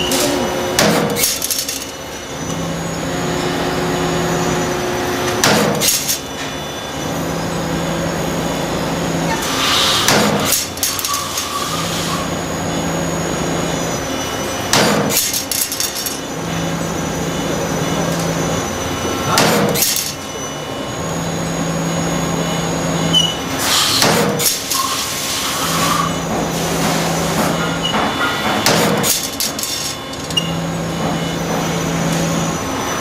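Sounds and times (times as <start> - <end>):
machine low hum: 0.0 - 33.0.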